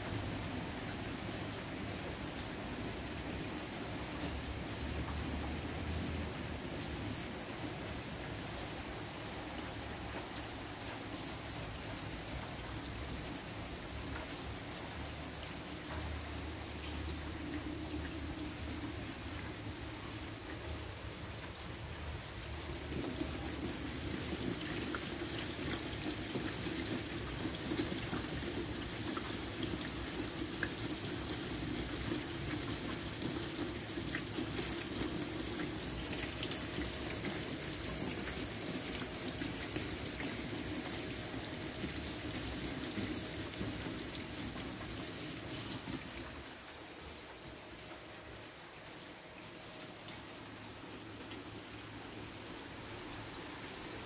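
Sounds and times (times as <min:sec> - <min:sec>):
heavy rain falling: 0:02.2 - 0:47.6.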